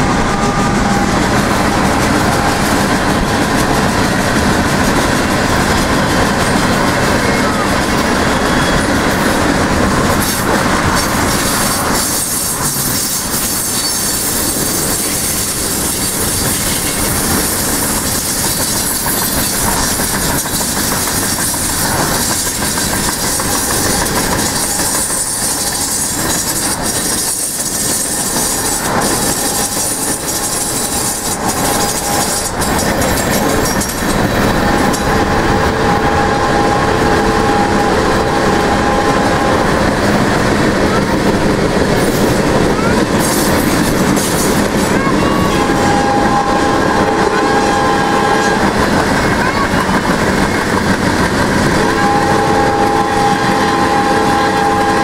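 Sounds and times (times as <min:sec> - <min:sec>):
freight train rumbling: 0:00.0 - 0:55.0
wheels clacking over rail joints: 0:00.0 - 0:55.0
wheels squealing on rail: 0:00.0 - 0:55.0.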